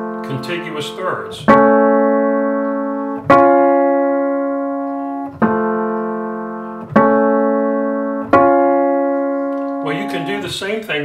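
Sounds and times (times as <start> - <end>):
piano playing two-note intervals: 0.0 - 11.0.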